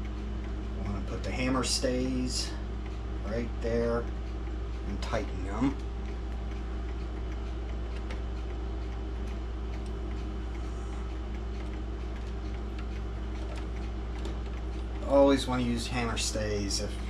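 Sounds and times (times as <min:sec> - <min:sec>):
low constant hum: 0:00.0 - 0:17.0
mechanical clock ticking: 0:00.0 - 0:17.0.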